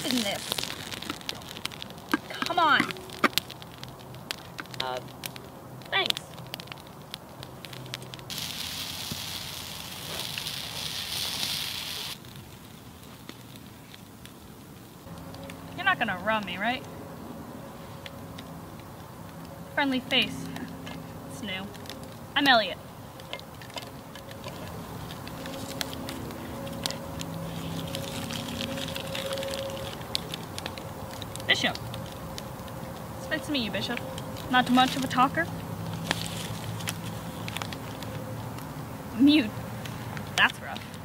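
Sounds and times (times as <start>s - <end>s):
faint fire crackles: 0.0s - 41.0s
steady hiss: 0.0s - 41.0s.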